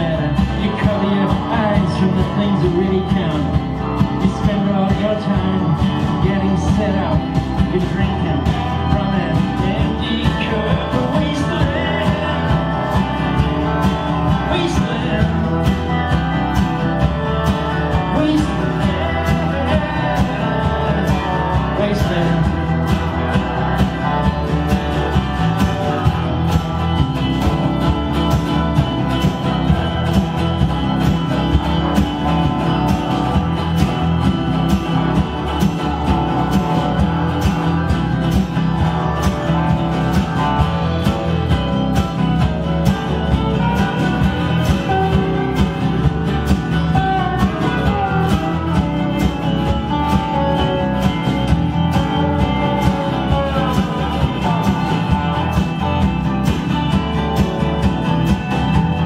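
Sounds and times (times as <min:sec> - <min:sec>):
bass guitar: 0:00.0 - 0:59.0
drum beat: 0:00.0 - 0:59.0
electric guitar: 0:00.0 - 0:59.0
lap slide guitar: 0:00.0 - 0:59.0
strummed acoustic guitars: 0:00.0 - 0:59.0.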